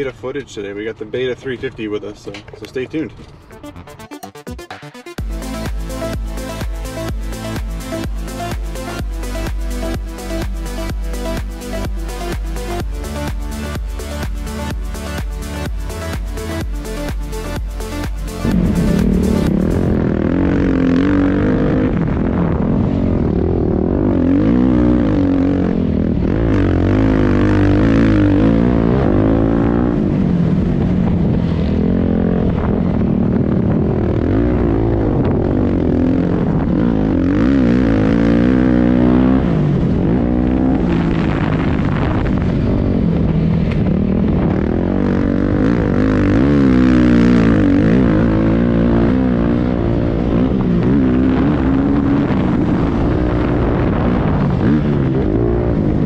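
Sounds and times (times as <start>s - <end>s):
dirt bike engine revving: 5.2s - 56.0s.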